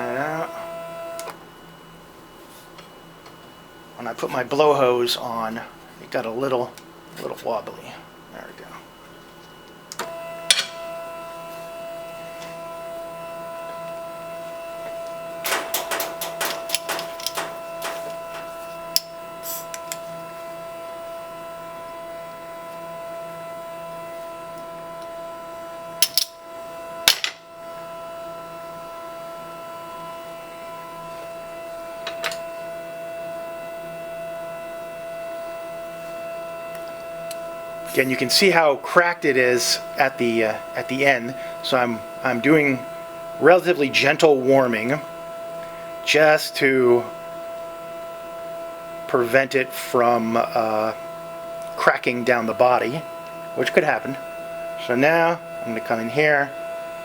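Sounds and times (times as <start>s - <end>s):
lathe motor whine: 0.0s - 57.0s.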